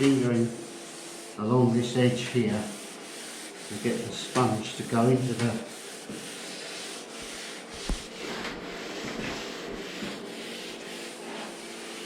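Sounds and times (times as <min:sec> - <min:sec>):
sanding sponge rubbing painted panel: 0:00.0 - 0:12.0.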